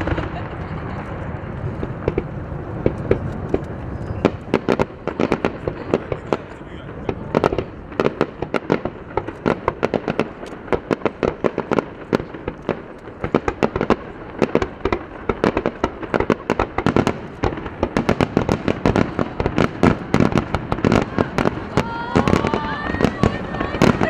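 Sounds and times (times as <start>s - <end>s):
fireworks banging: 0.0s - 24.0s.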